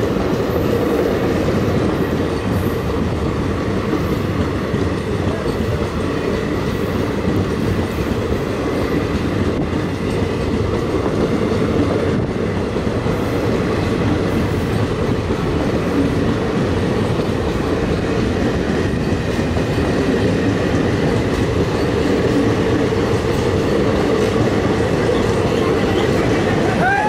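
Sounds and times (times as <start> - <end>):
train wheels rumbling and clattering: 0.0 - 27.0.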